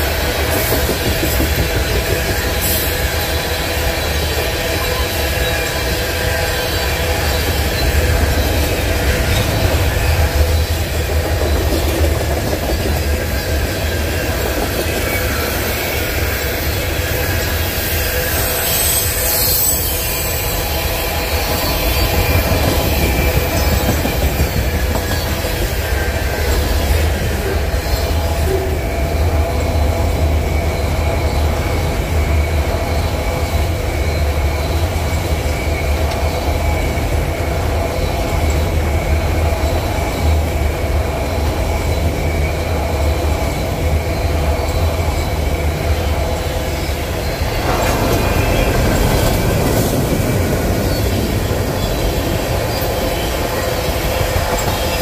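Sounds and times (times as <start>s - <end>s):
train wheels rumbling on rail: 0.0s - 55.0s
wheels squealing: 0.1s - 55.0s.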